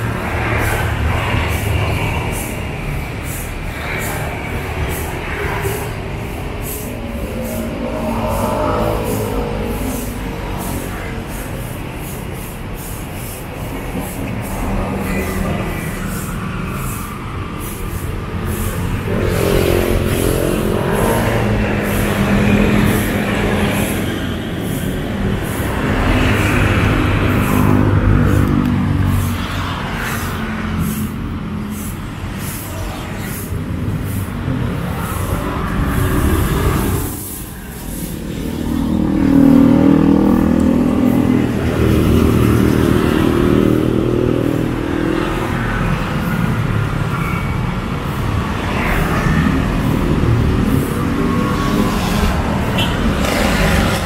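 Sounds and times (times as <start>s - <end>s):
vehicles passing close by: 0.0s - 54.0s.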